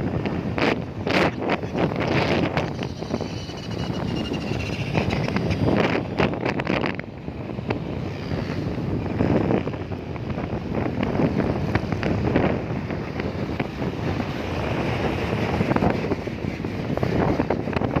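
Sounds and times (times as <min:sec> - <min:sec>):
rumbling traffic: 0:00.0 - 0:18.0
wind buffeting microphone: 0:00.0 - 0:18.0.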